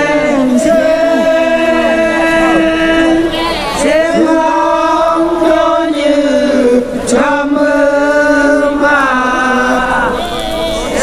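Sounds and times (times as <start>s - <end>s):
men chanting together: 0.0s - 11.0s
person singing into a microphone: 0.0s - 11.0s.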